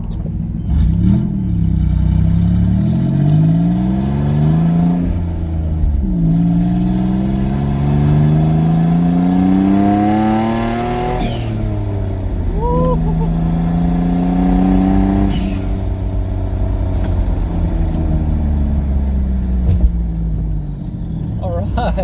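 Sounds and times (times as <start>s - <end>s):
car engine accelerating hard: 0.6s - 22.0s.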